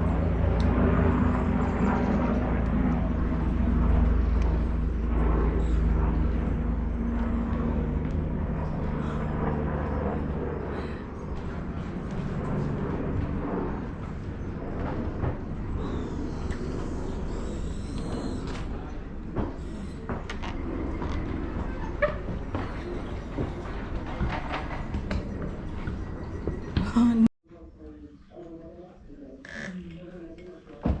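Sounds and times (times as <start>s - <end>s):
low engine drone: 0.0s - 27.9s.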